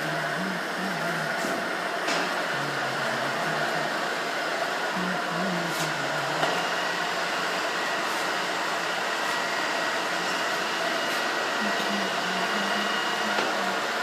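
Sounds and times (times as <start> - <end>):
boring machine whirring: 0.0 - 14.0.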